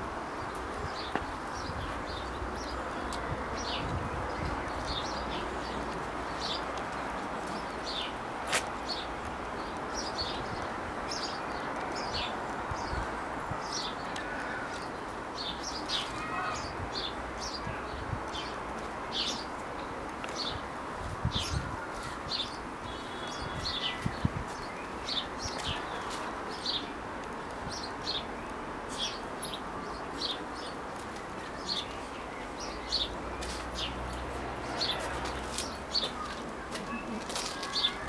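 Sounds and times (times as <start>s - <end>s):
steady background noise: 0.0s - 38.0s
small birds chirping: 0.3s - 38.0s.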